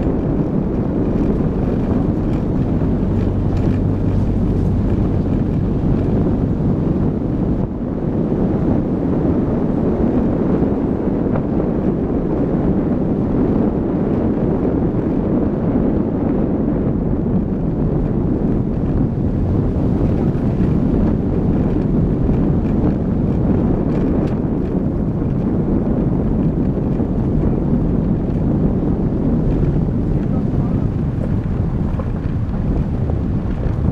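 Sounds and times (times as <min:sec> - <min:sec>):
tyres rumbling on gravel: 0:00.0 - 0:12.5, 0:17.3 - 0:33.9
wind buffeting microphone: 0:00.0 - 0:33.9.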